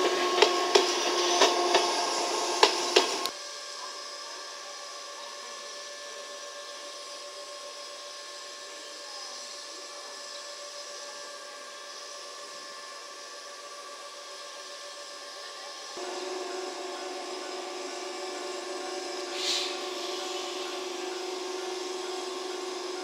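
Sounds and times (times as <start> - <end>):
constant high tones: 0.0 - 23.0
train wheel whine: 0.0 - 23.0.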